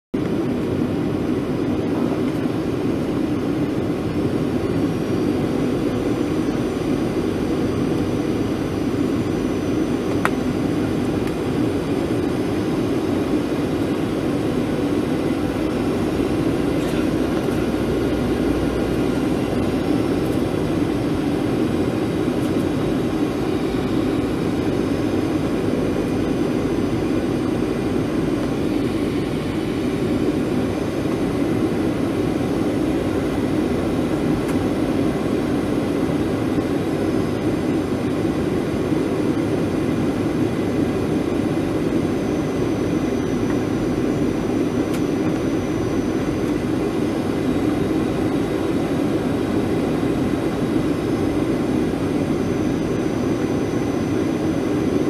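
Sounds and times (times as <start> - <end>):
airplane cabin noise: 0.2 - 55.0.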